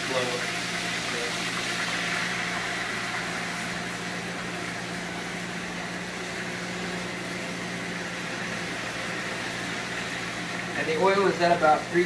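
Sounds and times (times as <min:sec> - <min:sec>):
okra frying in hot oil: 0:00.0 - 0:12.0.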